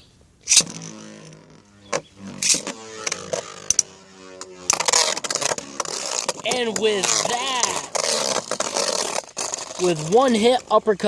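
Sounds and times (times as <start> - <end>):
ripcord zip: 0.4 - 11.0.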